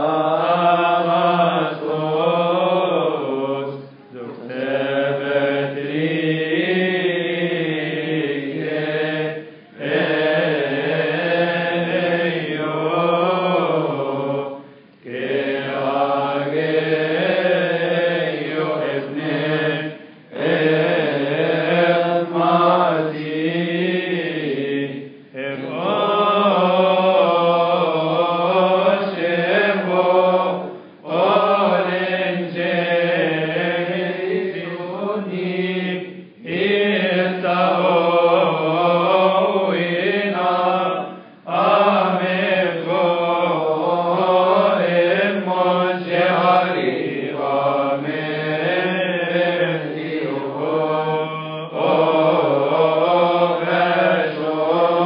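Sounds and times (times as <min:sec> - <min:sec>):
man singing liturgical chant: 0:00.0 - 0:55.0.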